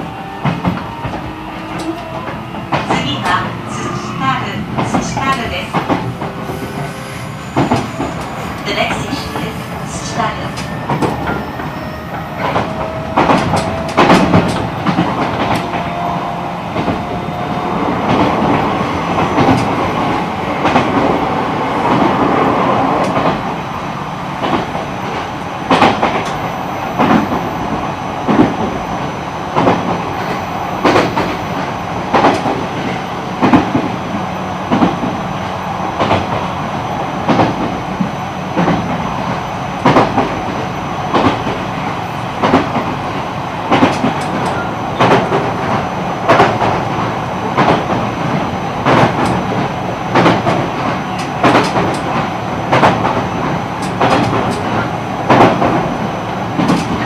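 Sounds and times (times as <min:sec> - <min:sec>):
train rumbling under way: 0:00.0 - 0:57.0.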